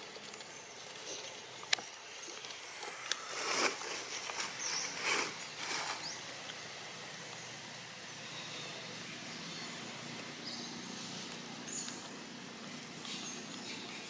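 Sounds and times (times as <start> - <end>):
dry leaves rustling: 0.0 - 14.0.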